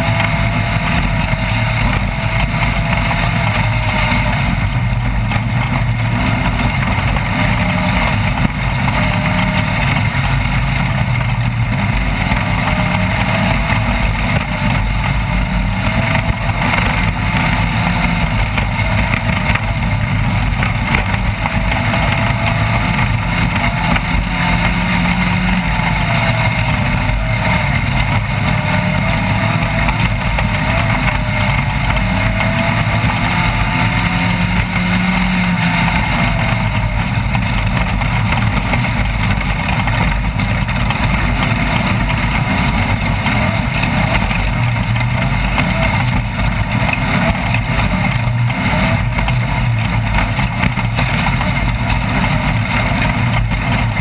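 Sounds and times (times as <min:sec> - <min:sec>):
driving noise: 0:00.0 - 0:54.0
race vehicle engine revving: 0:00.0 - 0:54.0.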